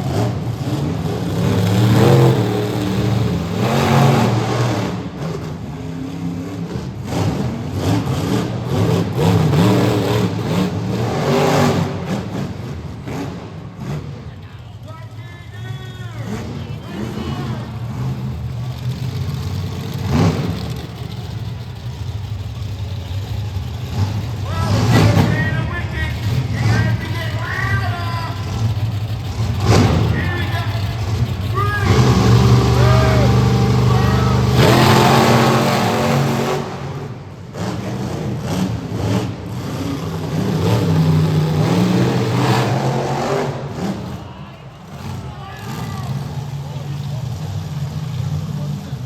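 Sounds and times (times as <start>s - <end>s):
truck engine rumbling: 0.0s - 49.0s.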